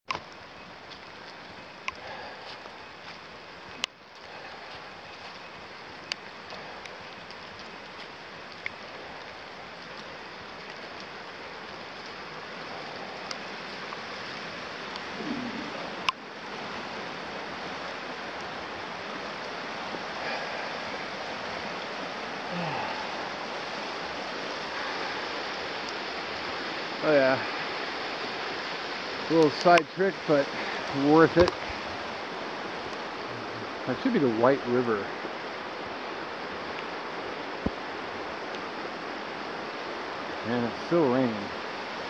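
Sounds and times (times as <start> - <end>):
river water rushing: 0.1 - 42.0.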